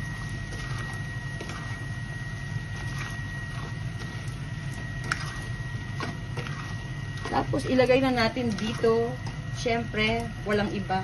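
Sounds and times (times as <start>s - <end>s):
kitchen hum: 0.0s - 11.0s.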